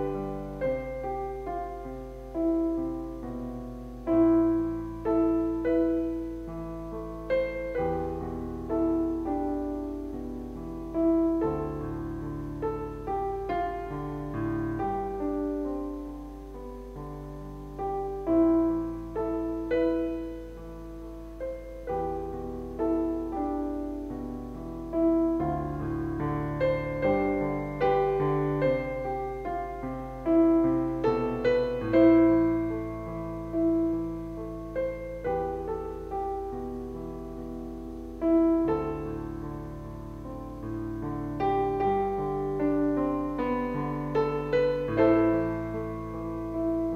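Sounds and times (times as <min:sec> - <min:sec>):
slow piano music: 0:00.0 - 0:46.9.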